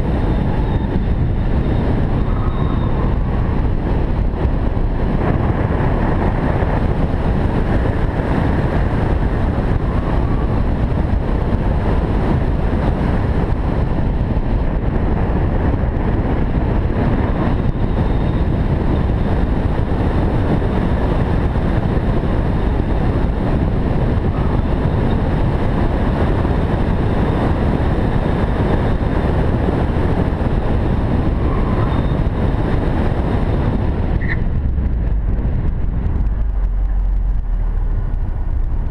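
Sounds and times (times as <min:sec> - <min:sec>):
car engine and tyre noise: 0:00.0 - 0:38.9
wind on microphone: 0:00.0 - 0:38.9.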